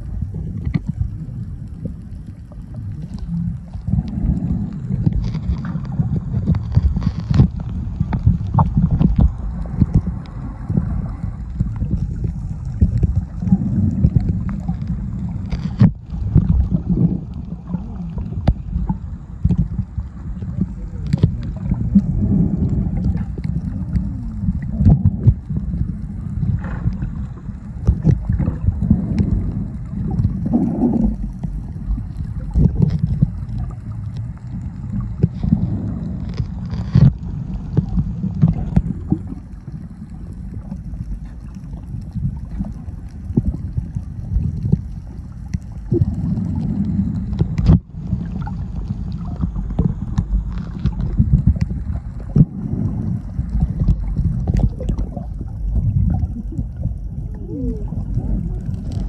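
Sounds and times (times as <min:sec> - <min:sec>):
bubbling: 0:00.0 - 0:59.0
underwater rumble: 0:00.0 - 0:59.0.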